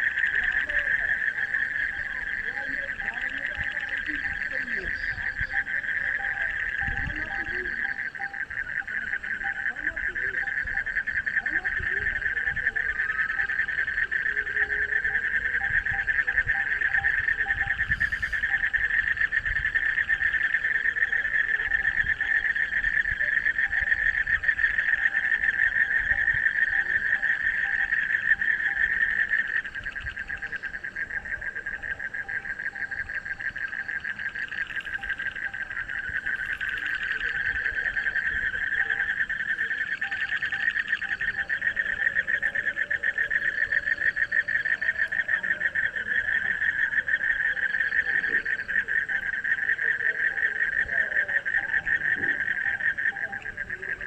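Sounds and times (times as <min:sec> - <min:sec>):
frogs croaking chorus: 0:00.0 - 0:54.0.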